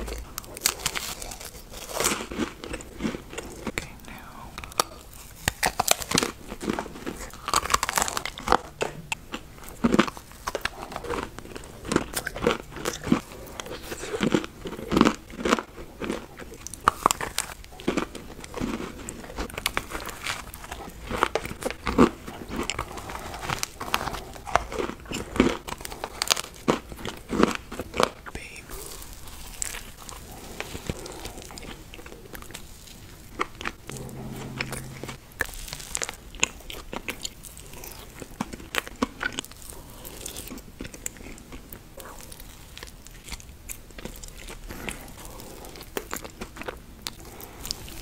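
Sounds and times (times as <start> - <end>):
crisp crunching of cookies: 0.0 - 33.8, 35.6 - 48.0
chewing: 0.0 - 48.0.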